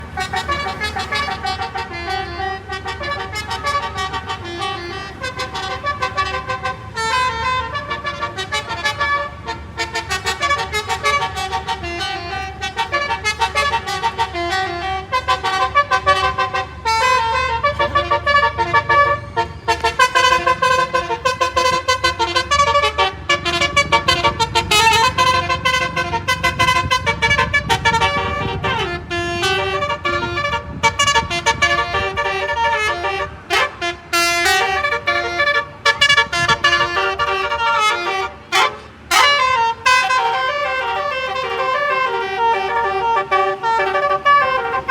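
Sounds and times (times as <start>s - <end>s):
bus engine rumbling: 0.0s - 44.9s
multi-tone musical bus horn: 0.0s - 44.9s.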